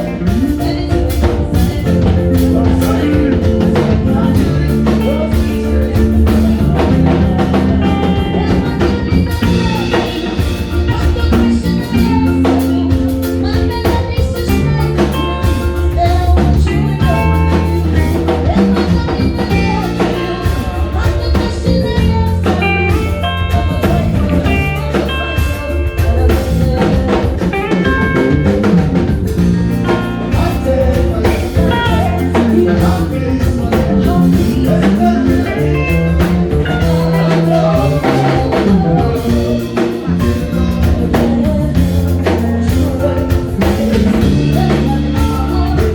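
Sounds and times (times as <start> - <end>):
drum kit: 0.0 - 45.9
electric guitar: 0.0 - 45.9.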